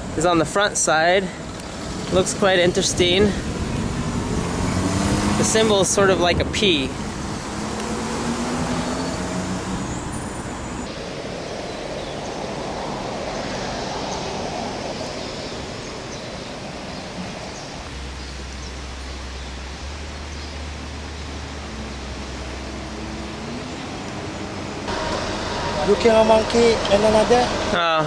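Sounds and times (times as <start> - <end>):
traffic noise: 0.0 - 28.0
vehicle passing: 1.2 - 18.1, 20.6 - 28.0
low engine hum: 1.4 - 28.0.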